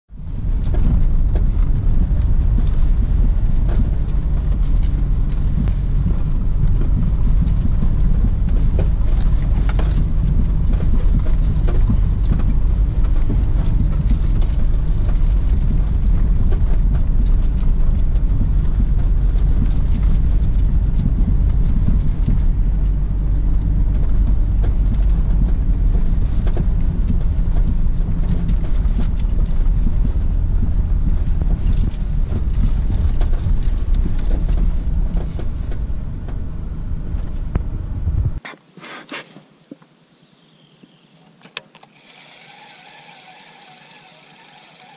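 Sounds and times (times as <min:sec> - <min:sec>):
knocks and rattles from bumps: 0:00.1 - 0:38.5
car engine and tyre rumble: 0:00.1 - 0:44.9.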